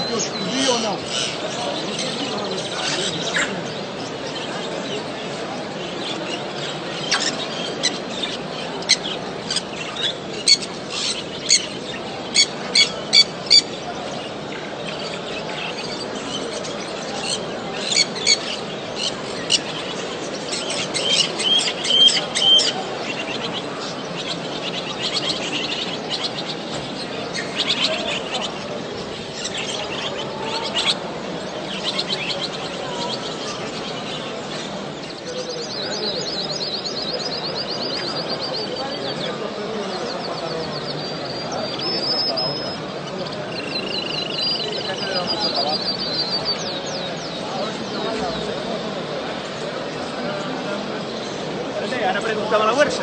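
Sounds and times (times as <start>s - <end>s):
birds chirping: 0.0s - 53.0s
low background noise: 0.0s - 53.0s.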